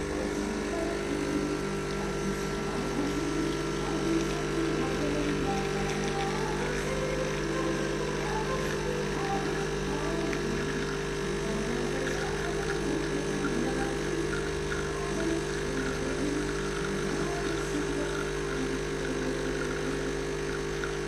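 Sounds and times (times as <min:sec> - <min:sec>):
espresso machine pump humming: 0:00.0 - 0:21.0.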